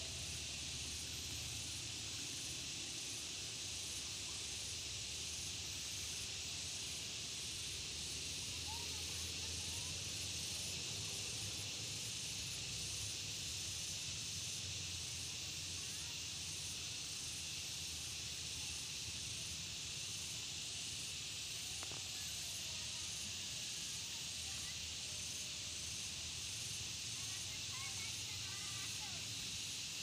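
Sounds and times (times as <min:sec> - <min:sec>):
insects high-pitched hiss: 0:00.0 - 0:30.0
pulsing insect calls: 0:00.0 - 0:30.0.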